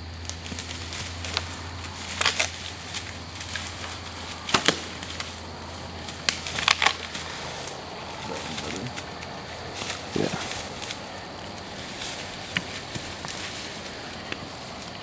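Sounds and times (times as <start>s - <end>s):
footsteps crunching in dry leaves: 0.2s - 15.0s.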